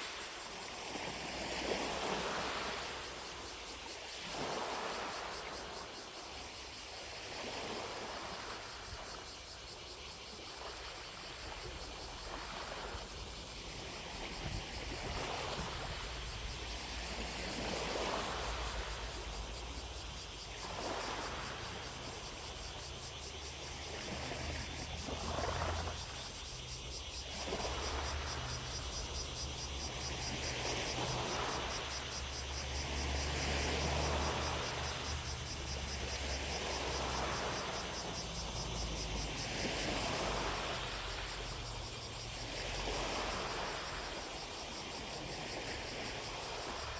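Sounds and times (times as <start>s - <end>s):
distant cicadas buzzing: 0.0s - 46.9s
waves lapping against shore: 0.0s - 46.9s.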